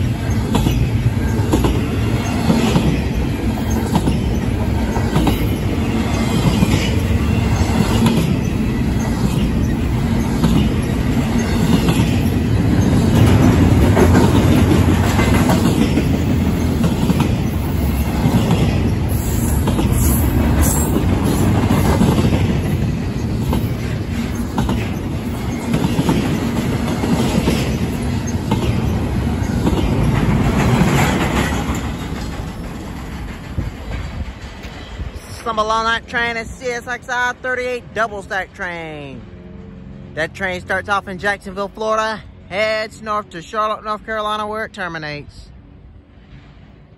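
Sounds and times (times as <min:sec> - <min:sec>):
clickety-clack over rail joints: 0:00.0 - 0:38.8
train wheels rumbling on rails: 0:00.0 - 0:45.0.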